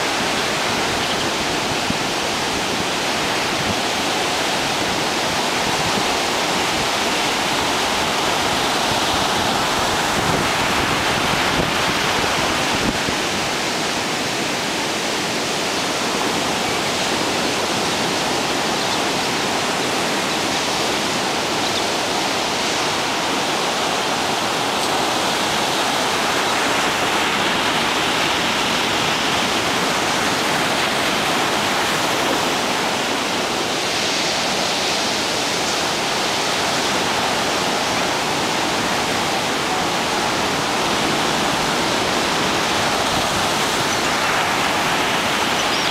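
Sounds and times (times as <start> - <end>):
heavy surf breaking: 0.0 - 45.9.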